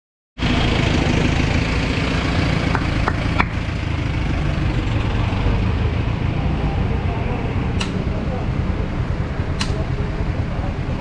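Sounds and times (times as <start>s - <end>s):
engine idling: 0.4s - 11.0s.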